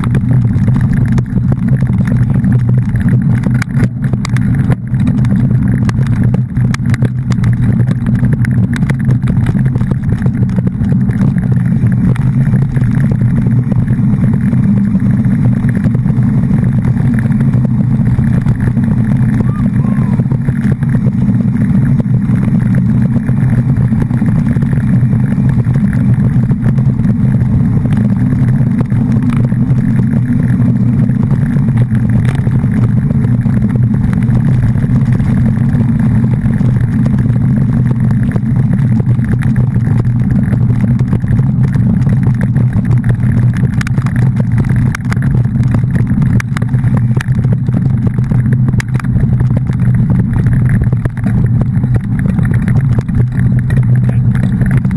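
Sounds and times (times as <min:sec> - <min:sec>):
vehicle engine and road drone: 0:00.0 - 0:54.9.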